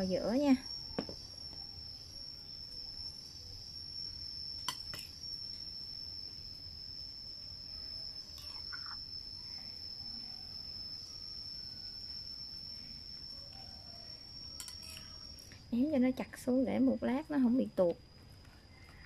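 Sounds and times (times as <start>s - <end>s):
high-pitched whine: 0.0s - 19.0s.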